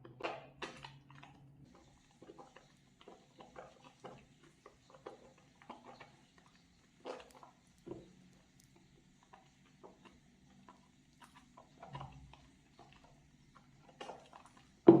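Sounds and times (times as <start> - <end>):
soap lathering squishy clicks: 0.2 - 14.9.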